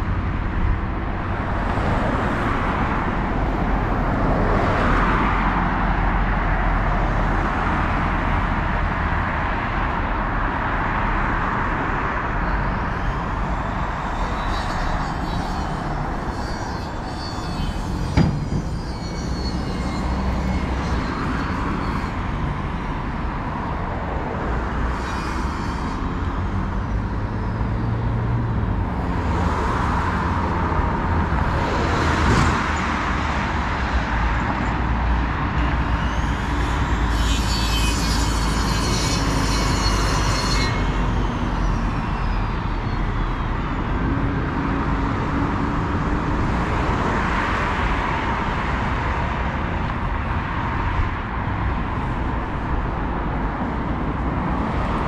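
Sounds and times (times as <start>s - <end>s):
cars driving by: 0.0s - 55.0s.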